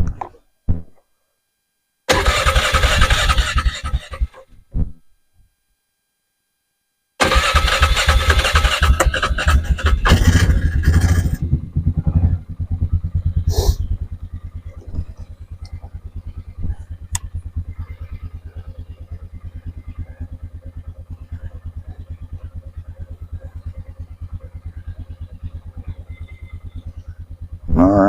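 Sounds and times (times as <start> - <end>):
atv engine idling: 2.1 - 4.5, 7.2 - 28.0.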